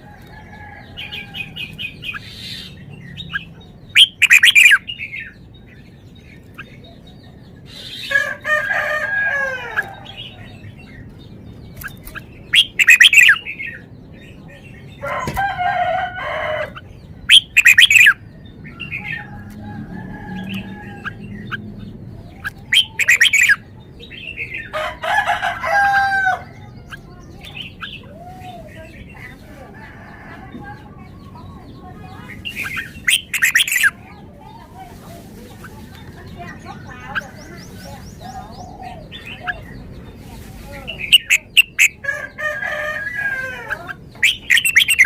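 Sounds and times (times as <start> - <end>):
bird singing warbling phrases: 0.0 - 45.0.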